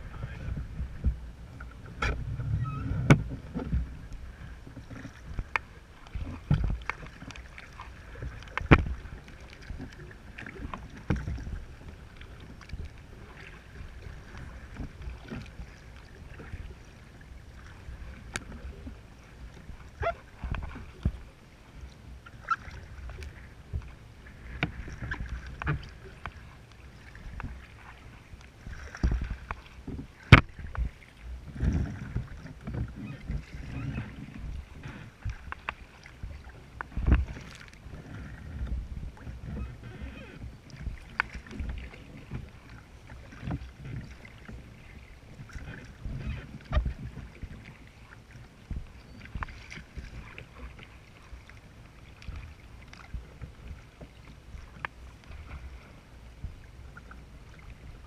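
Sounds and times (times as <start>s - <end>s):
water slapping against kayak hull: 0.0s - 58.0s.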